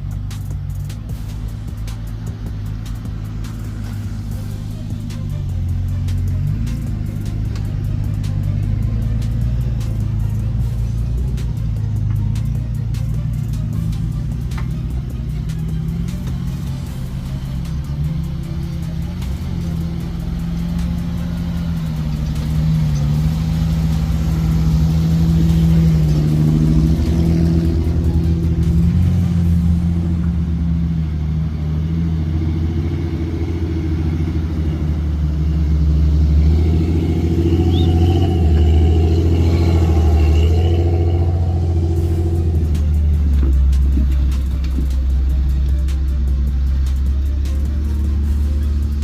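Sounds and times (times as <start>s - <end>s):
music playing: 0.0s - 49.0s
vehicle engine running: 0.0s - 49.0s.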